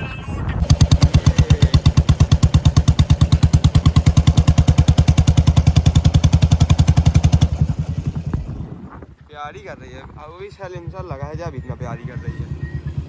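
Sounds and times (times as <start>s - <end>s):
single-cylinder motorcycle engine thumping: 0.6s - 9.2s, 10.5s - 13.0s.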